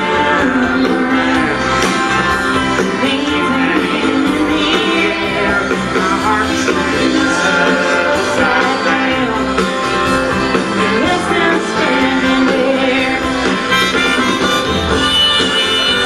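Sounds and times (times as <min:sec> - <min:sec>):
acoustic guitar strumming: 0:00.0 - 0:16.0
country-rock band playing: 0:00.0 - 0:16.0.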